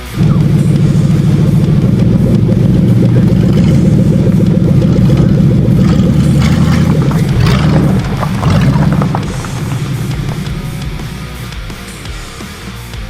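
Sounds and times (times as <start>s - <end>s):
sharp engine knocks: 0.0s - 12.4s
car engine rough exhaust beat: 0.0s - 13.0s.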